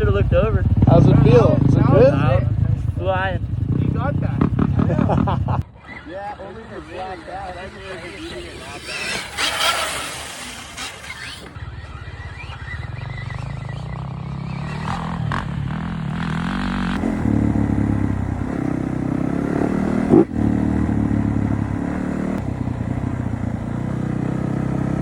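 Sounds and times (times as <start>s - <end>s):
dirt bike engine running: 0.0s - 5.7s, 6.4s - 25.0s.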